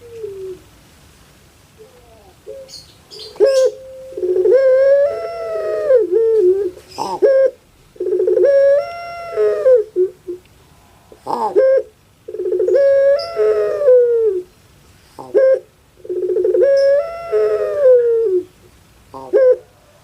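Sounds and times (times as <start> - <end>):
dove cooing: 0.0 - 0.7, 1.8 - 10.4, 11.2 - 14.5, 15.2 - 20.0.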